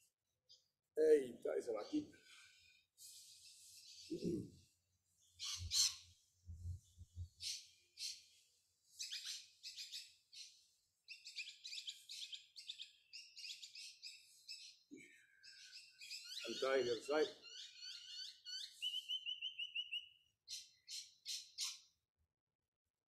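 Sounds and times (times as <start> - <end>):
small birds chirping: 0.5 - 22.0.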